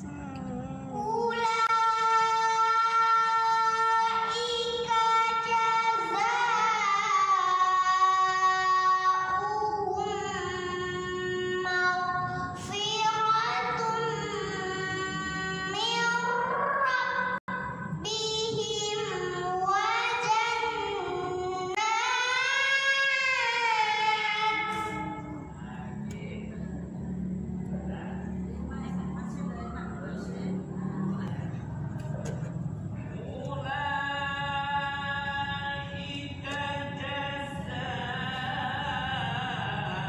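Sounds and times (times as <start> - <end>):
person chanting melodic recitation: 0.0 - 28.4, 29.5 - 40.0.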